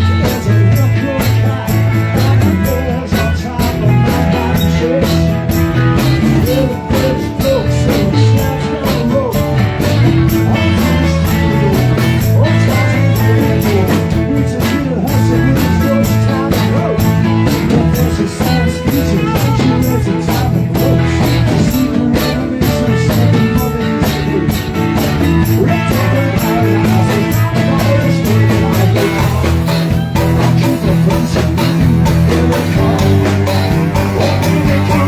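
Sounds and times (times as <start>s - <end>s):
drum kit beat: 0.0s - 35.0s
guitar: 0.0s - 35.0s
rock song: 0.0s - 35.0s.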